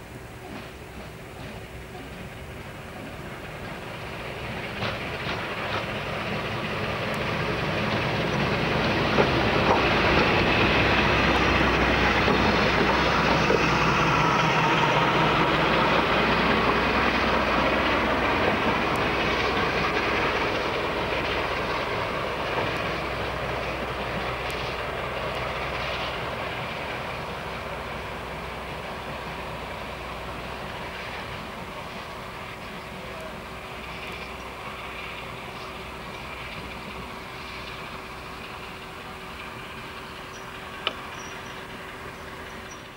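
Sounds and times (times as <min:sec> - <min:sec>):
diesel locomotive passing: 0:00.0 - 0:42.9
wheels clicking over rail joints: 0:00.4 - 0:14.2, 0:15.5 - 0:42.9.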